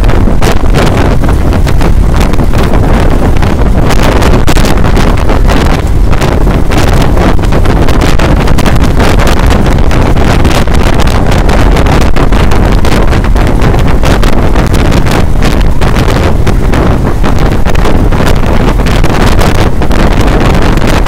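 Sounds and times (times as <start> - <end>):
low road rumble: 0.0 - 21.0
wind buffeting microphone: 0.0 - 21.0.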